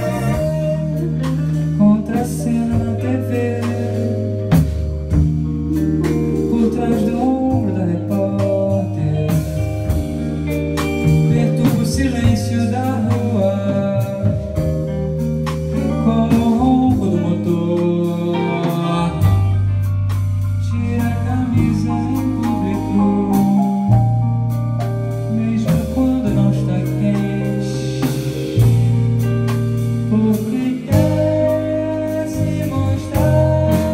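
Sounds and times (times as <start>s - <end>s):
person singing: 0.0s - 4.9s, 6.0s - 19.8s, 20.4s - 24.2s, 25.2s - 28.7s, 30.0s - 33.9s
drum kit: 0.0s - 33.9s
electric bass: 0.0s - 33.9s
electric guitar: 0.0s - 33.9s
keyboard: 0.0s - 33.9s.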